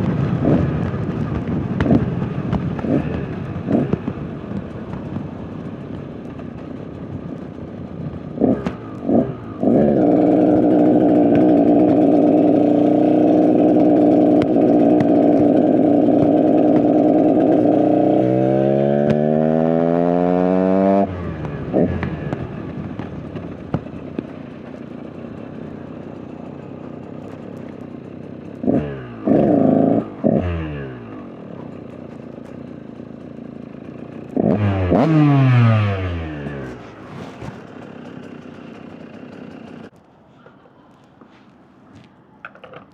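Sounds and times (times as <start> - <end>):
dirt bike engine revving: 0.0 - 5.9, 8.3 - 40.0.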